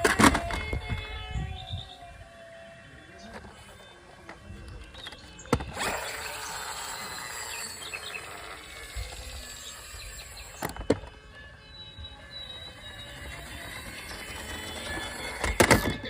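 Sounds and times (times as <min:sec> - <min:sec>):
toy car mechanism whirring: 0:00.0 - 0:02.0, 0:03.2 - 0:16.0.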